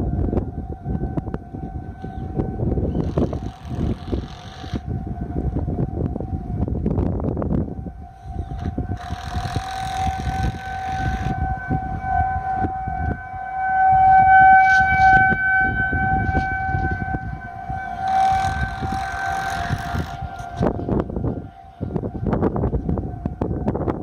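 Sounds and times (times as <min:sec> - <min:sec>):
warning siren steady tone: 0:00.0 - 0:24.0.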